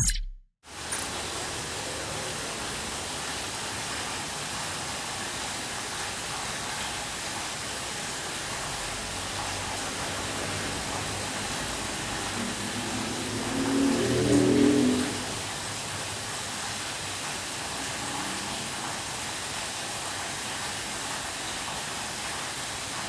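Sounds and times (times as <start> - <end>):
light rain falling: 1.1 - 23.0.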